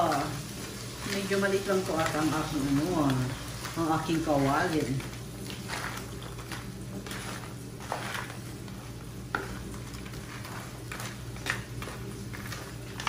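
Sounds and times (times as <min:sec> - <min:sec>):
crab shells scraping in a pan: 0:00.0 - 0:13.0.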